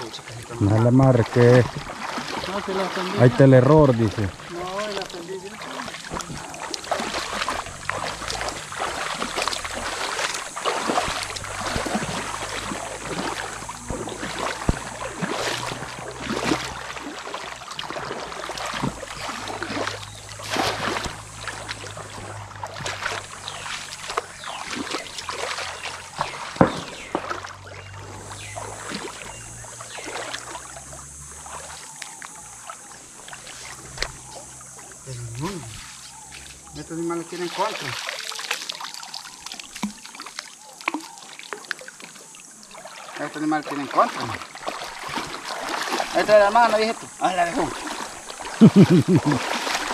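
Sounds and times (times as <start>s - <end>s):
water splashing: 0.0s - 49.9s.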